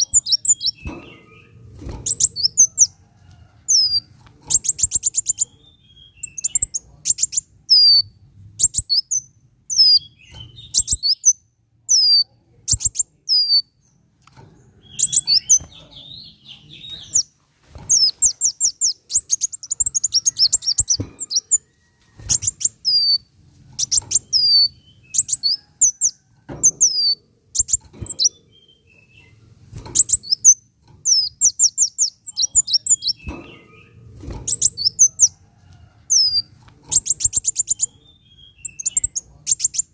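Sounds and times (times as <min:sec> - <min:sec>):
sunbird singing: 0:00.0 - 0:03.0, 0:03.7 - 0:14.0, 0:14.7 - 0:17.3, 0:17.9 - 0:21.7, 0:22.3 - 0:29.4, 0:30.0 - 0:35.4, 0:36.1 - 0:39.9.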